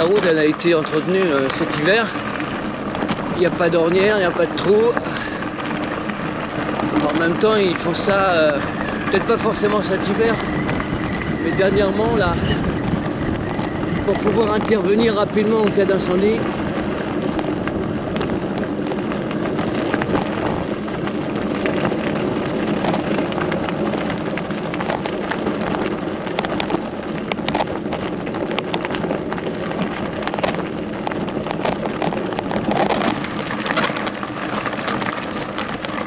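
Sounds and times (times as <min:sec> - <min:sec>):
bicycle tyres crunching gravel: 0:00.0 - 0:36.0.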